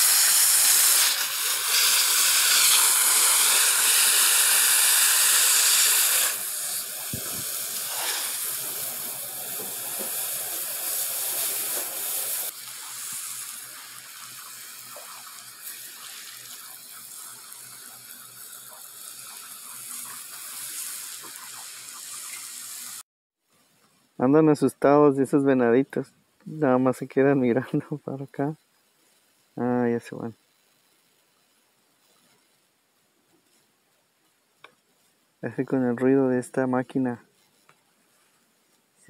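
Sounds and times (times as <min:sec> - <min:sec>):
hose spray hissing on soil: 0:00.0 - 0:23.0, 0:26.7 - 0:39.0.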